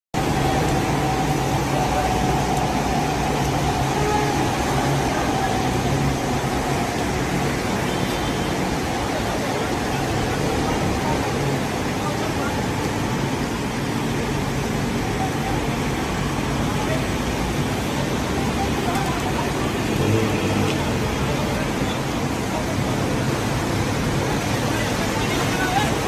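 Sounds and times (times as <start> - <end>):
faint voices: 0.2 - 26.0
heavy rain hiss: 0.2 - 26.0.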